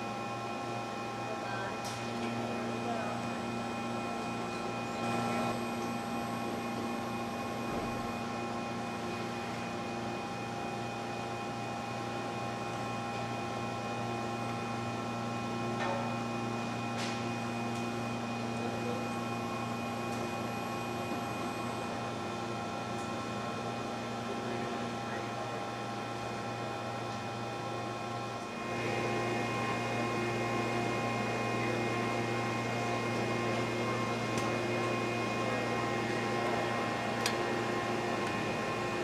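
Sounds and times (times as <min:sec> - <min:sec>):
grinding machine hum: 0:00.0 - 0:23.7, 0:27.4 - 0:39.0.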